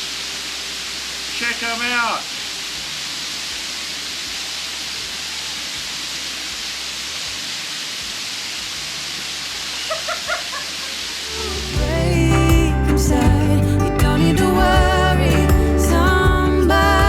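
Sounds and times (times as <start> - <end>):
waterfall hiss: 0.0 - 13.9.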